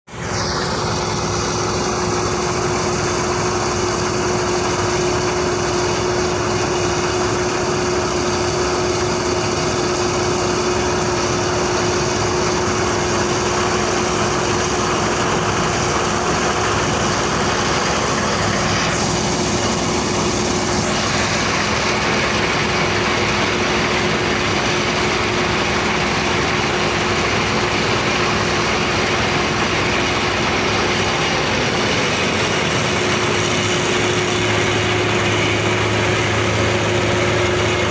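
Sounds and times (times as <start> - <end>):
combine harvester running: 0.1 - 37.9.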